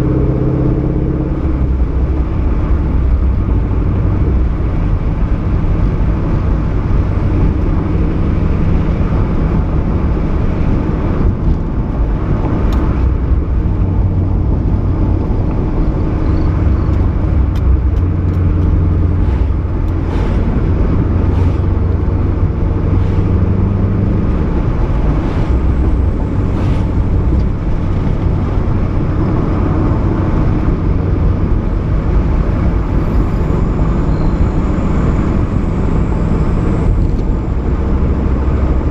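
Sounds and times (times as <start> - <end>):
car engine driving: 0.0 - 38.9.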